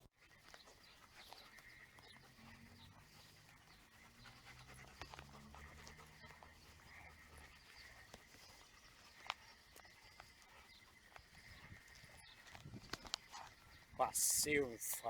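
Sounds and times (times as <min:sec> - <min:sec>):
dogs panting: 0:00.0 - 0:15.0
faint clicks: 0:00.4 - 0:13.6.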